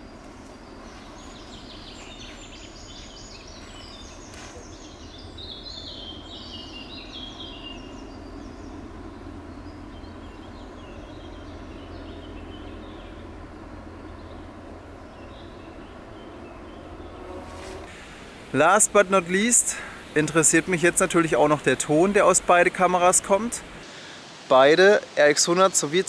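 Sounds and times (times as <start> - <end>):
steady low rumble: 0.0 - 23.9
birds chirping: 0.0 - 24.4.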